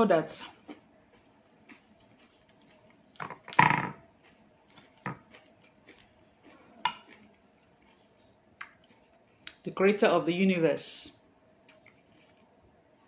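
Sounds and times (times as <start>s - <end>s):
chewing and mouth noise: 0.2s - 9.7s, 11.4s - 13.0s.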